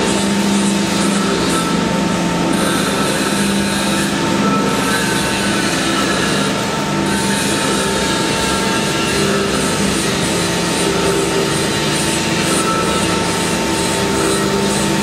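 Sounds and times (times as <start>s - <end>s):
mechanical rumble and grinding: 0.0s - 15.0s
steady whine: 0.0s - 15.0s.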